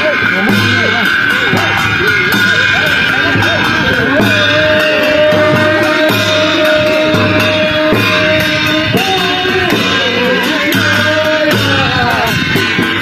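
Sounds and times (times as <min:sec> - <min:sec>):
drum beating: 0:00.0 - 0:13.0
hand cymbal strikes: 0:00.0 - 0:13.0.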